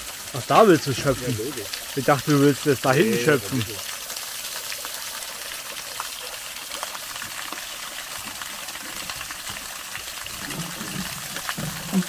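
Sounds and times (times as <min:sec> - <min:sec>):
small stream rushing: 0:00.0 - 0:12.0
water dripping and splashing: 0:00.0 - 0:12.0.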